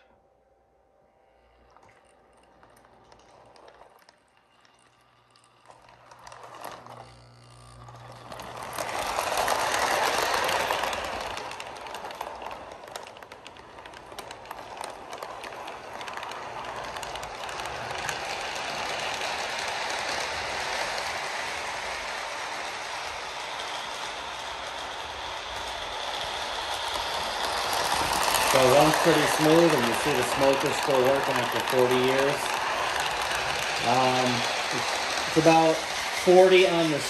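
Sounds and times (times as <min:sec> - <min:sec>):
toy train motor hum: 0:01.4 - 0:37.0
wheels clicking over rails: 0:01.4 - 0:37.0.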